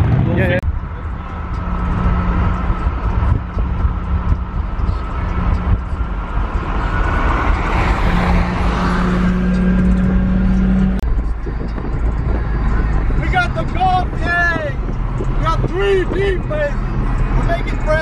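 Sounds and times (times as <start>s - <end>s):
car engine and tyre rumble: 0.0s - 18.0s
passing traffic rush: 0.0s - 18.0s.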